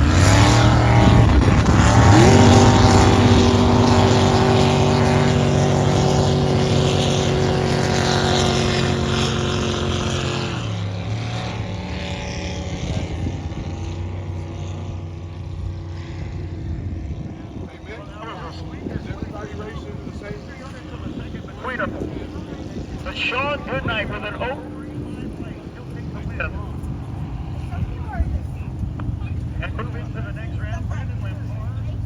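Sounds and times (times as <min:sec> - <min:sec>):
boat engines at full throttle: 0:00.0 - 0:32.0.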